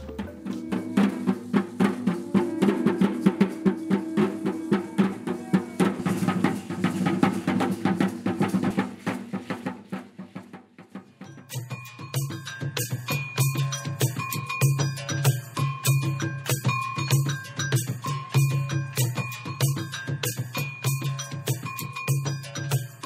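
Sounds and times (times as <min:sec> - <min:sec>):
fast drumming: 0:00.0 - 0:23.0.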